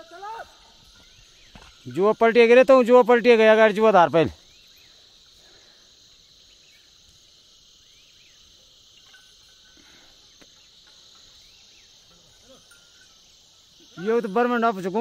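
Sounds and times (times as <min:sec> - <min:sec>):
faint chirps: 0:00.0 - 0:03.3, 0:04.0 - 0:15.0
high-pitched insect chorus: 0:00.0 - 0:15.0.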